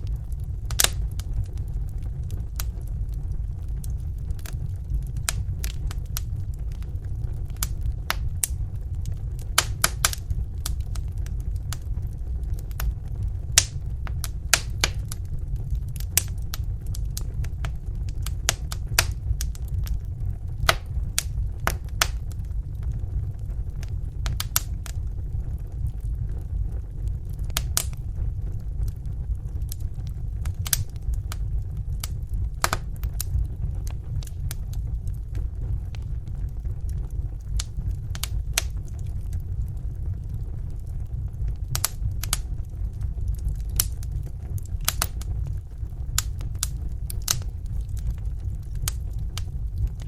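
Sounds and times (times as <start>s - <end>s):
low rumble of flames: 0.0s - 50.0s
wood fire crackling and popping: 0.0s - 50.0s.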